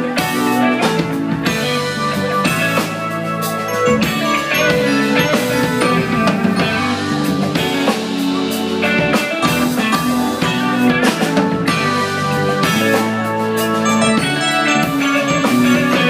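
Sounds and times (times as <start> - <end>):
drum kit: 0.0 - 16.0
electric bass: 0.0 - 16.0
electric guitar: 0.0 - 16.0
keyboard: 0.0 - 16.0.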